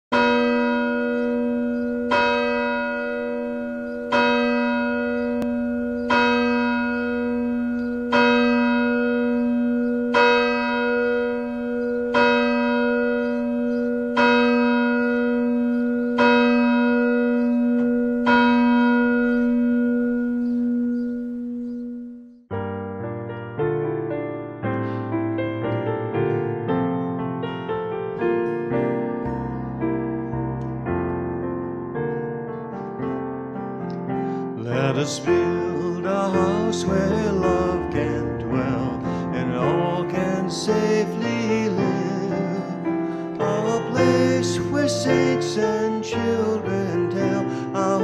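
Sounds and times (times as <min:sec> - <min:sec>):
church bell tolling: 0:00.1 - 0:23.1, 0:23.7 - 0:48.0
piano music: 0:00.1 - 0:48.0.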